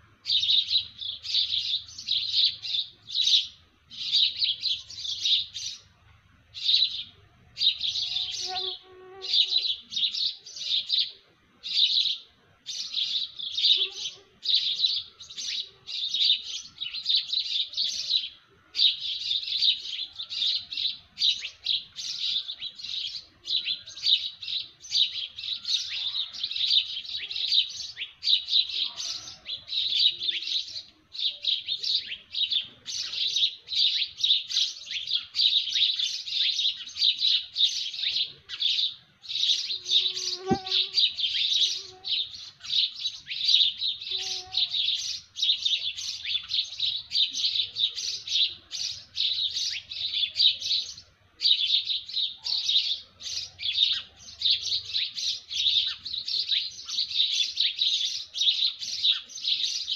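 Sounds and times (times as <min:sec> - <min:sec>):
small birds chirping: 0:00.0 - 0:59.9
faint lower bird calls: 0:06.6 - 0:59.9.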